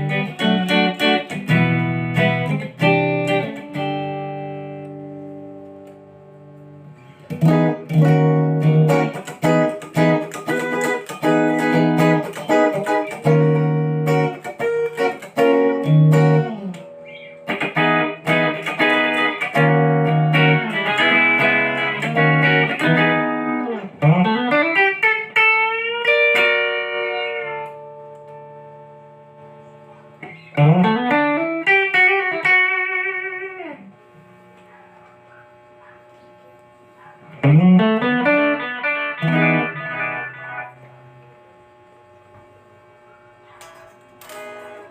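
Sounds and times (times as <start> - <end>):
electric guitar playing fast runs: 0.0 - 34.6, 36.6 - 42.1.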